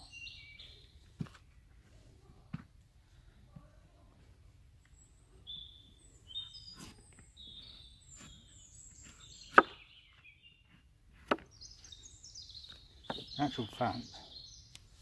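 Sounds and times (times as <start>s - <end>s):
small birds singing: 0.0s - 2.3s, 3.1s - 15.0s.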